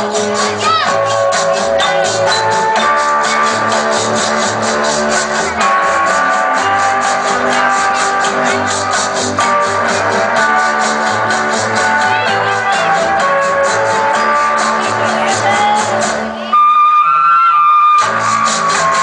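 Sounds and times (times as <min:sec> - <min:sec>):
dance music with guitar: 0:00.0 - 0:19.0.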